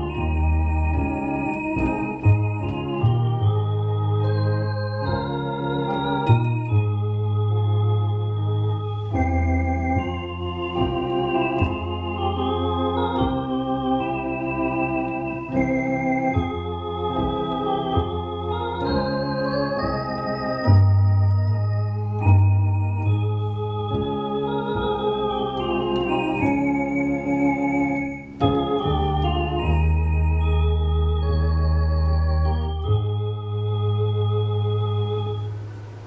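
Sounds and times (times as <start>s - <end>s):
electronic organ playing hymn: 0.0s - 36.0s.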